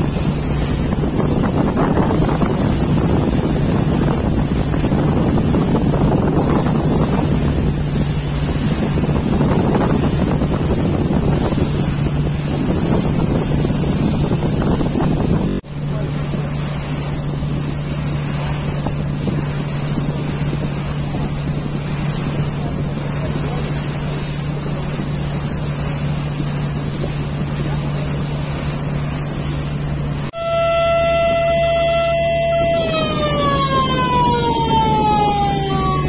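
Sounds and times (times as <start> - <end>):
wind buffeting microphone: 0.0 - 30.4, 31.1 - 36.0
boat engine hum: 0.0 - 36.0
water rushing along hull: 0.0 - 36.0.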